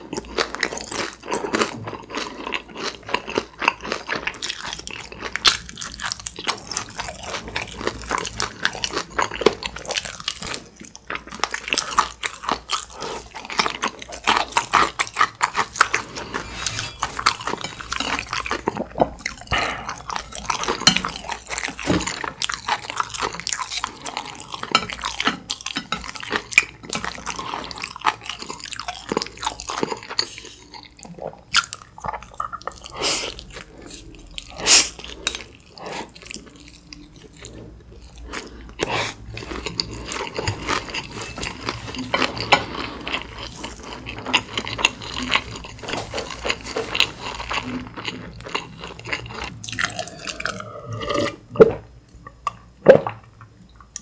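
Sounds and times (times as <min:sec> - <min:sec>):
chewing and wet mouth sounds: 0:00.0 - 0:54.0.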